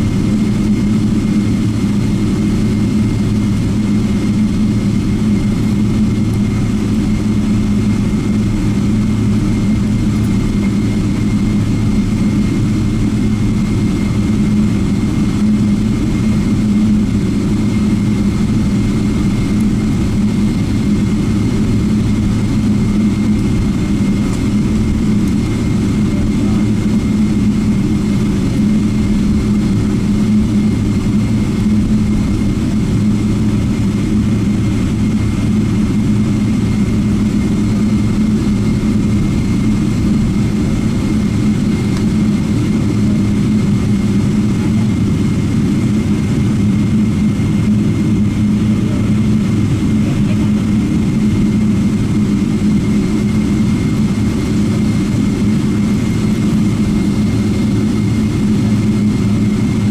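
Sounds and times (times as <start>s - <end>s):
jet engines droning: 0.0s - 59.9s.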